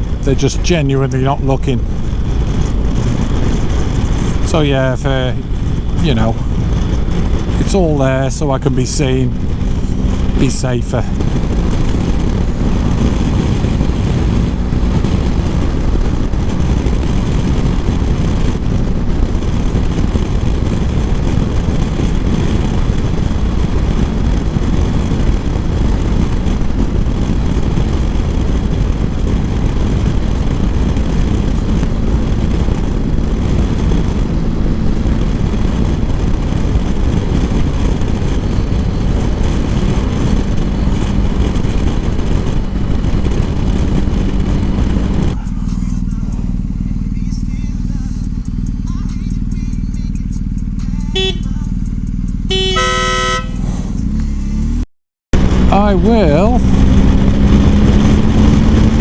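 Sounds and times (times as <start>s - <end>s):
wind rushing on microphone: 0.0s - 46.8s, 55.4s - 59.0s
motorcycle engine drone: 0.0s - 59.0s.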